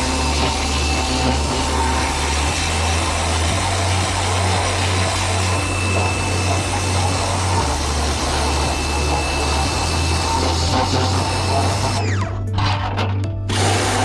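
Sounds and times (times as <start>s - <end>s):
small motor running: 0.0s - 12.8s, 13.5s - 14.0s.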